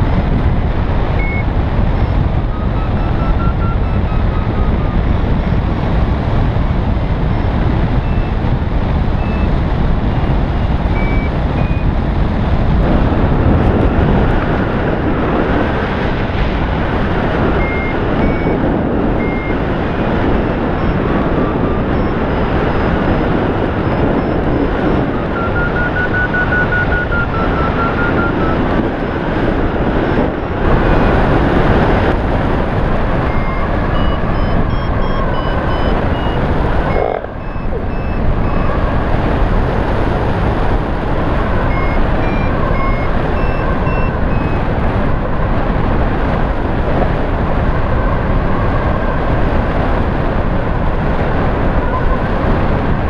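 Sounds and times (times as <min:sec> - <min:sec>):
variometer beeping: 0:00.0 - 0:50.0
wind rushing on microphone: 0:00.0 - 0:53.0.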